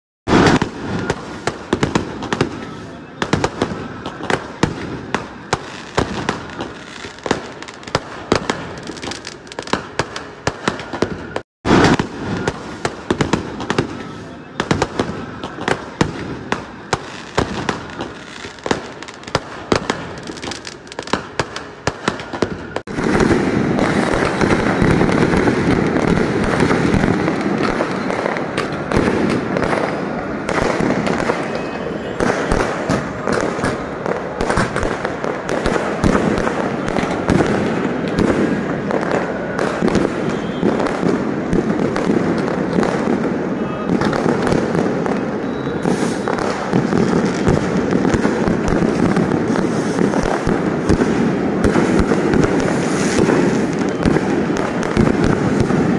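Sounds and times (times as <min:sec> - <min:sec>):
firecracker cracks and pops: 0:00.3 - 0:55.9
fireworks bursts and crackling: 0:00.3 - 0:55.9.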